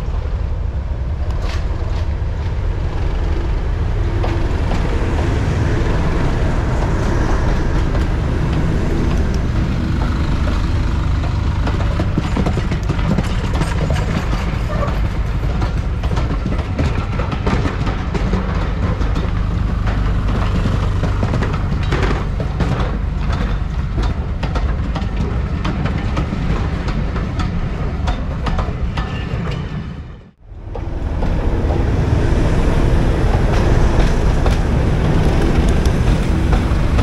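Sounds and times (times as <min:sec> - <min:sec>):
wheels clicking over rail joints: 0:00.0 - 0:29.9, 0:30.5 - 0:37.0
diesel locomotive engine drone: 0:00.0 - 0:37.0
train coaches rumbling past: 0:00.0 - 0:37.0.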